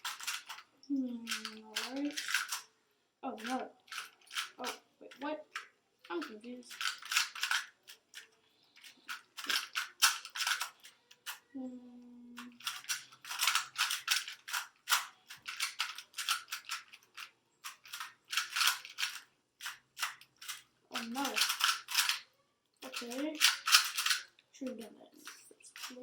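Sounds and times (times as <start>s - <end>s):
puzzle cube clicks: 0.0s - 2.7s, 3.4s - 11.5s, 12.3s - 22.2s, 22.8s - 26.0s.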